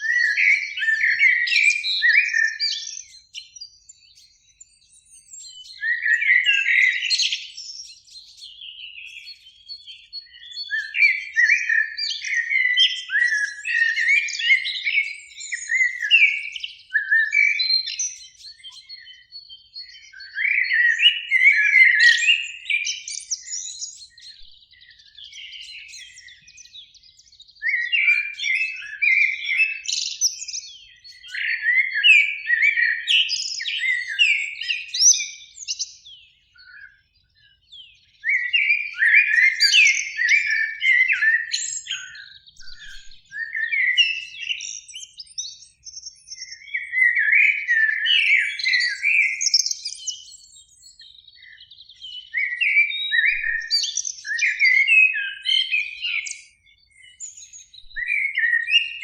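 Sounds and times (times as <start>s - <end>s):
blackbird singing: 0.0s - 59.0s.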